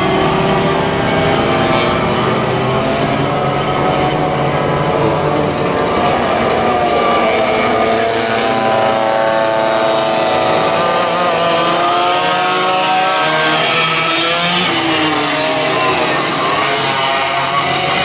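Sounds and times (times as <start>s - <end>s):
go-kart engines at high revs: 0.0s - 18.0s.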